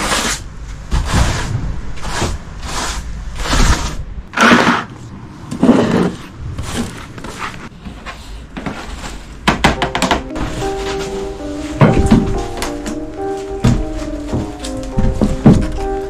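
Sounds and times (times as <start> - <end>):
broom sweeping wooden floor: 0.0 - 9.4, 10.3 - 16.0.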